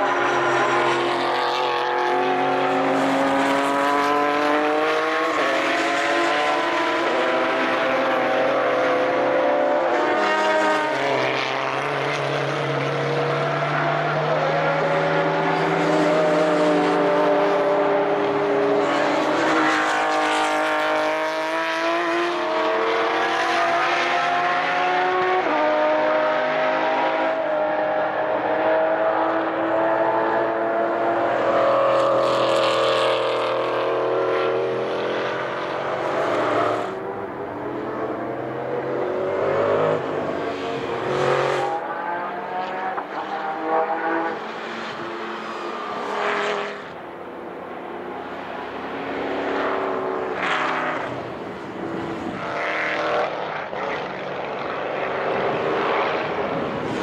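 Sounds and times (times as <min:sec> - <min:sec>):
racing car engines passing: 0:00.0 - 0:57.0.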